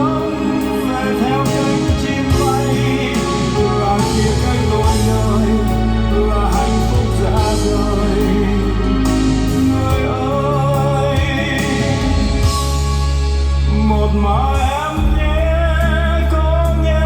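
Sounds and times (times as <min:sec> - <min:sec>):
music over loudspeakers: 0:00.0 - 0:17.0
strong sustained bass: 0:00.0 - 0:17.0.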